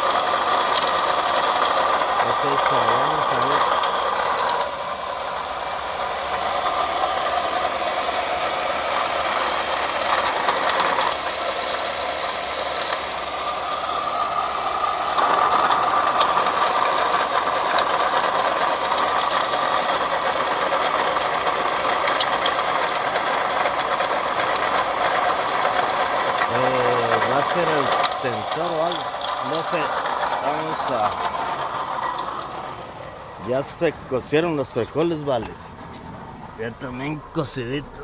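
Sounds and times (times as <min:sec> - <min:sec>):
car engine running: 0:00.0 - 0:38.0
power steering rattling and bubbling: 0:00.0 - 0:38.0.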